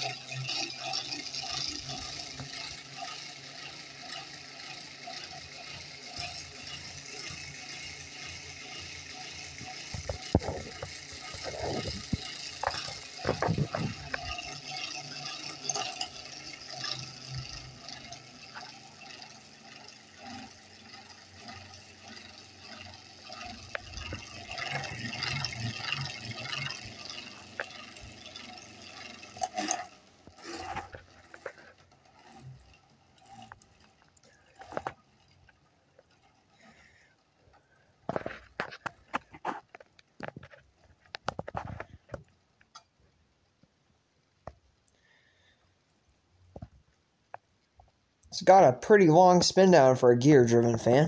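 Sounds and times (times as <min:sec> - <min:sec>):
ceiling fan whirring and ticking: 0:00.0 - 0:51.0.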